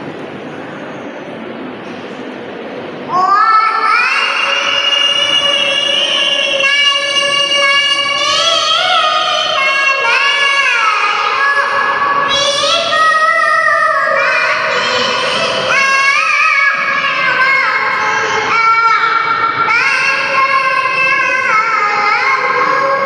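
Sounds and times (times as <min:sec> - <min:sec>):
girl reciting melodically: 0:03.0 - 0:23.0.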